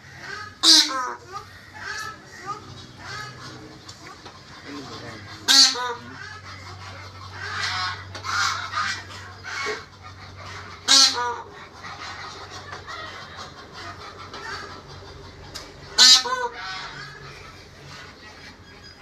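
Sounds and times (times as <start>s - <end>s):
low steady hum: 0.0s - 19.0s
peafowl calling: 0.0s - 19.0s.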